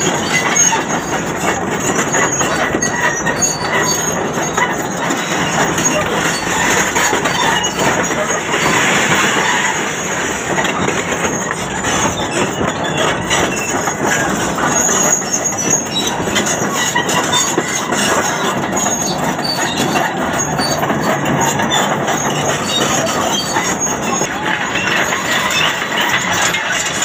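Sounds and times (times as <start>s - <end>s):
crawler tracks clanking and squealing: 0.0s - 27.0s
diesel engines running: 0.0s - 27.0s.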